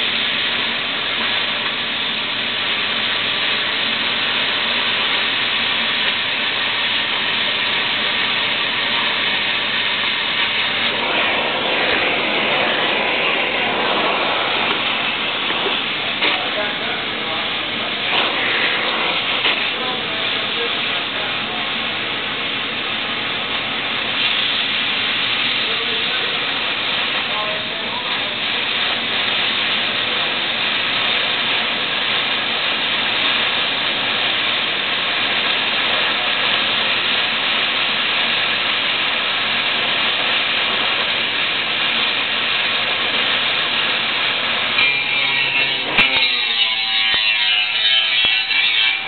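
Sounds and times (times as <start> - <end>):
steady loud hiss: 0.0 - 49.0.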